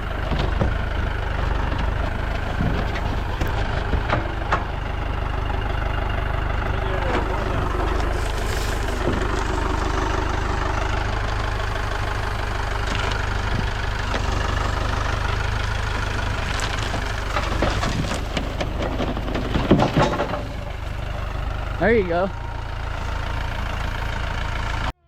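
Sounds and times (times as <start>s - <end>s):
loading machine engine running: 0.0s - 25.0s.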